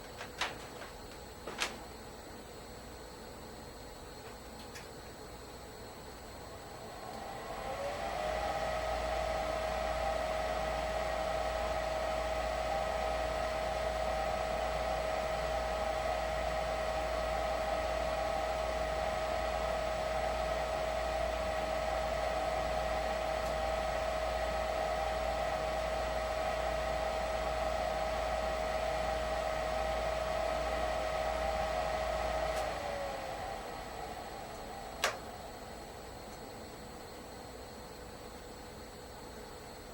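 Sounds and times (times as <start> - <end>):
furnace fan motor whining: 0.0 - 39.9.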